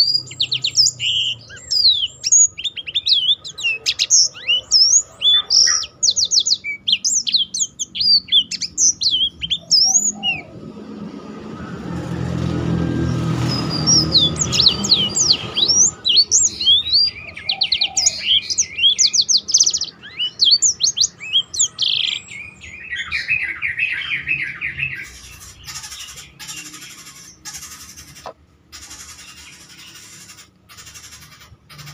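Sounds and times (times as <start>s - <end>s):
canary singing: 0.0s - 31.9s.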